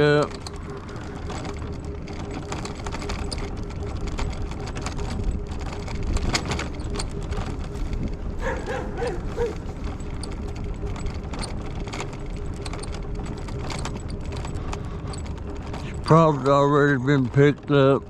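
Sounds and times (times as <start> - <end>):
small clicks and rattles: 0.0 - 18.0
vehicle rumbling: 0.0 - 18.0.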